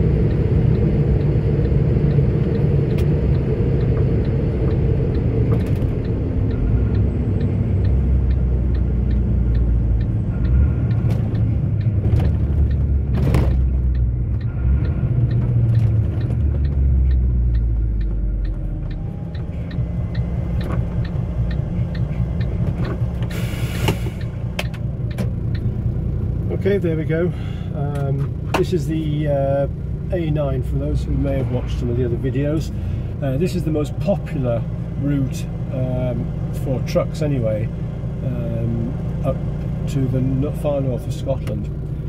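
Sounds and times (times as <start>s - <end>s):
light ticking: 0.0s - 42.0s
road noise: 0.0s - 42.0s
truck diesel engine drone: 0.0s - 42.0s.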